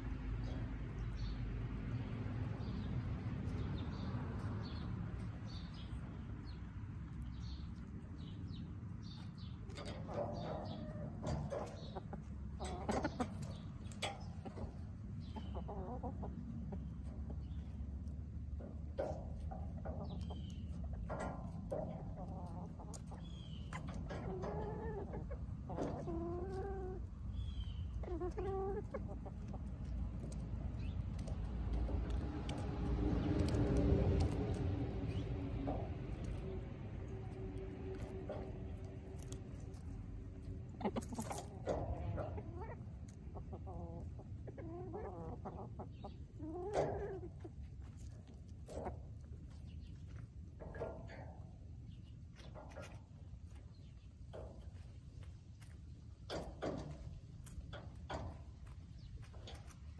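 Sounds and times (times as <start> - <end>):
hens clucking: 0.0 - 59.9
steady low rumble: 0.0 - 59.9.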